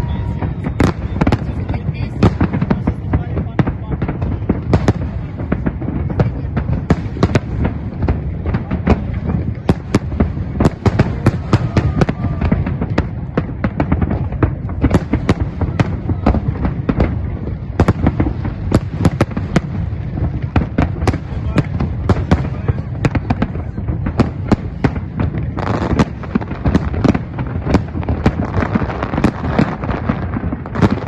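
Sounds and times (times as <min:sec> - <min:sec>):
fireworks bangs and crackles: 0:00.0 - 0:31.0
low rumble of distant fireworks: 0:00.0 - 0:31.0.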